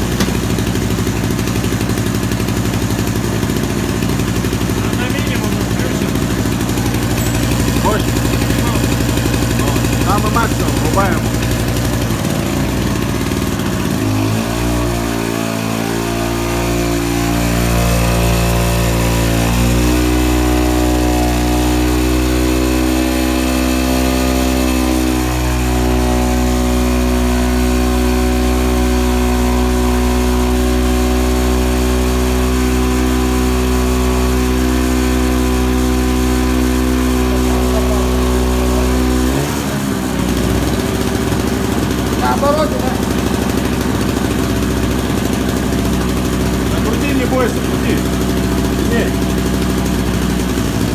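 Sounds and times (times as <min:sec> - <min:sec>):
generator engine running: 0:00.0 - 0:50.9.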